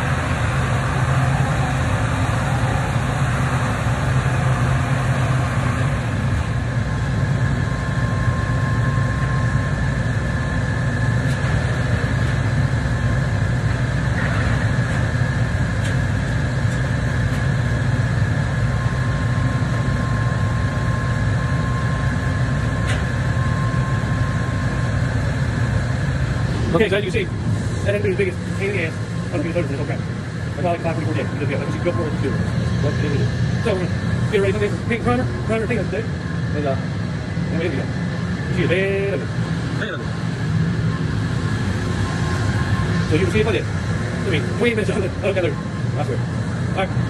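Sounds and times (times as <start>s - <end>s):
faint high whine: 0.0s - 47.0s
machine low hum: 0.0s - 47.0s.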